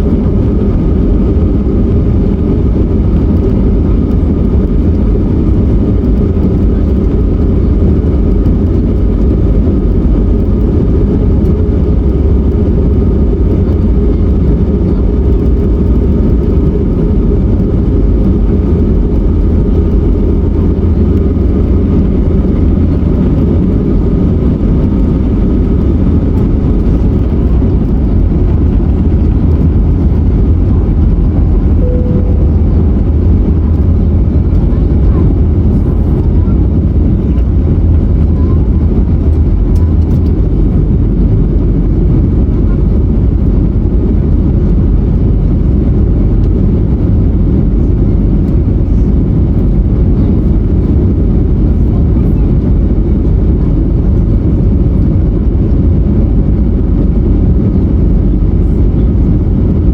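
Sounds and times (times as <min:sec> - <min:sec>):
airplane cabin engine drone: 0:00.0 - 0:59.9
faint steady whine: 0:00.0 - 0:59.9.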